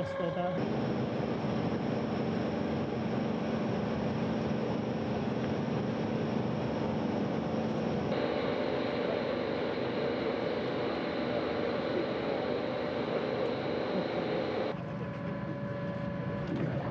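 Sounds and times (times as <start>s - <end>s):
mechanical hum with held tones: 0.0s - 16.9s.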